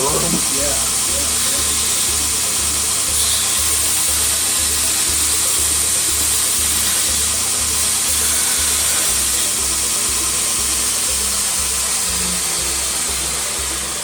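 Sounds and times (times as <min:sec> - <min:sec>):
belt grinder grinding steel: 0:00.0 - 0:14.0.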